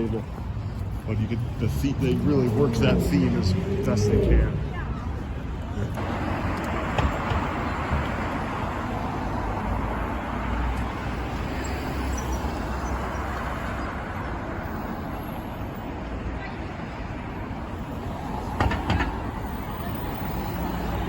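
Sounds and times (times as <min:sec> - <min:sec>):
road traffic hum: 0:00.0 - 0:21.0.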